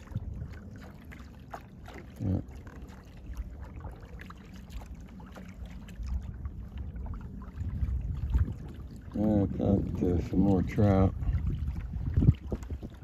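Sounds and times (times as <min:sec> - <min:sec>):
small irregular splashes: 0:00.0 - 0:13.0
steady low rumble: 0:00.0 - 0:13.0
water lapping against kayak hull: 0:00.0 - 0:13.0.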